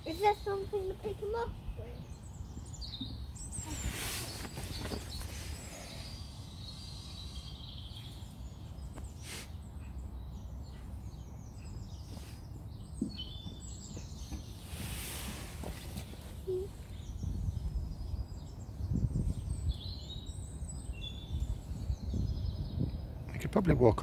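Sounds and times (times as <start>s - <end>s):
wild birds chirping: 0.0s - 24.0s.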